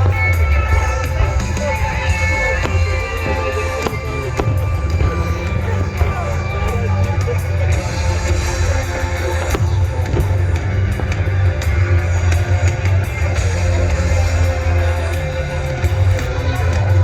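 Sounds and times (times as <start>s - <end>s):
loud rock music: 0.0s - 17.0s.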